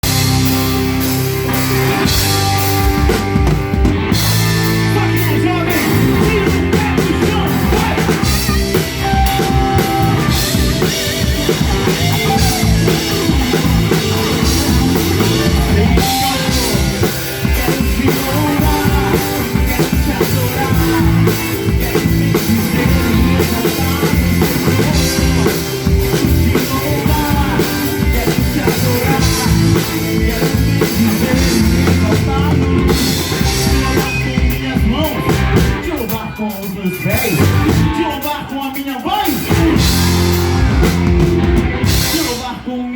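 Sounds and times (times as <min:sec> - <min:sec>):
drum kit playing: 0:00.0 - 0:42.8
rock worship band with singing: 0:00.0 - 0:42.9.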